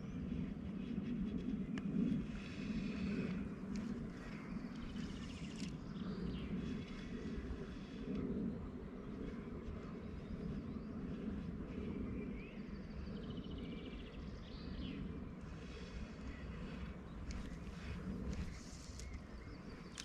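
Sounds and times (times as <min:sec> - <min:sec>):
wind buffeting microphone: 0:00.0 - 0:20.0
small birds chirping: 0:02.3 - 0:08.3, 0:09.3 - 0:20.0.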